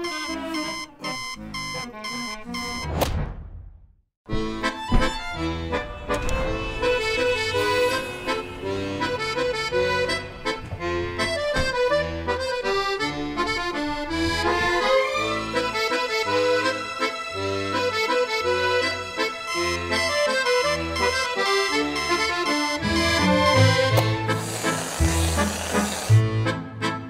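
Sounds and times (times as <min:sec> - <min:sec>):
instrumental film music: 0:00.0 - 0:03.0, 0:04.3 - 0:27.0.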